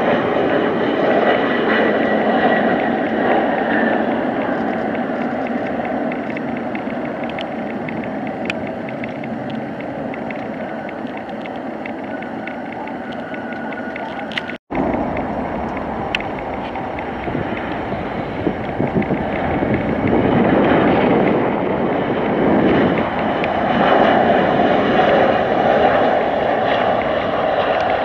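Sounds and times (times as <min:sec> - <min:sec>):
jet landing and rolling out: 0:00.0 - 0:28.0.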